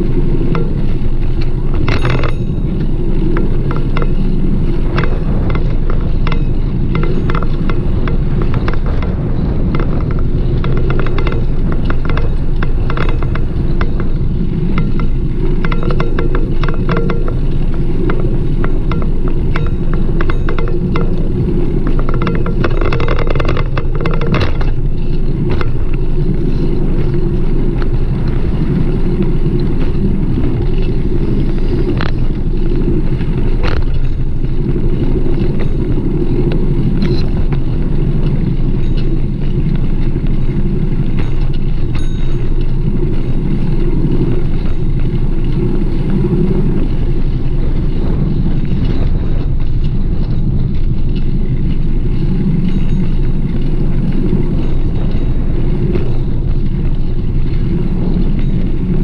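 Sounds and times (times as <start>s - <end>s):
bicycle rattling clicks: 0.0s - 59.0s
wind and road rumble: 0.0s - 59.0s.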